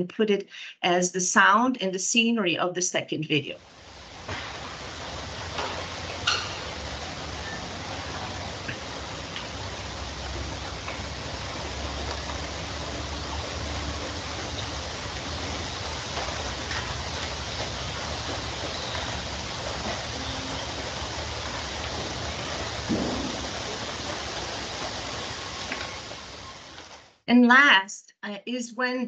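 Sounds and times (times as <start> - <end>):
bamboo leaves rustling in wind: 3.6 - 27.2.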